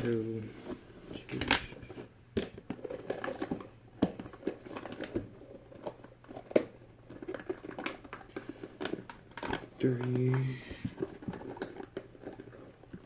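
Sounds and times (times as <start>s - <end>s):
plastic toys clicking and clacking: 2.4s - 13.0s.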